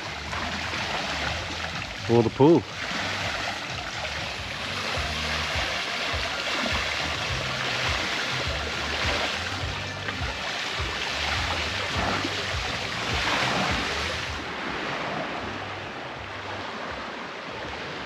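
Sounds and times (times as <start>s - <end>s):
ocean surf washing onto shore: 0.0s - 18.0s.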